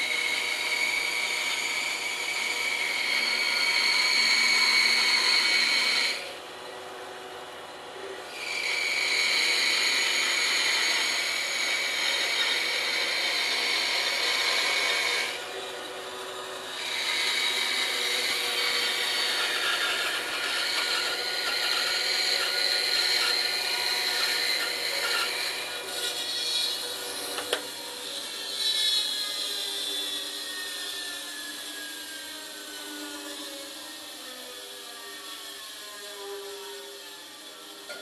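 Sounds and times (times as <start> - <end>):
bandsaw cutting wood: 0.0 - 6.4, 8.3 - 38.0
bandsaw motor running: 0.0 - 38.0.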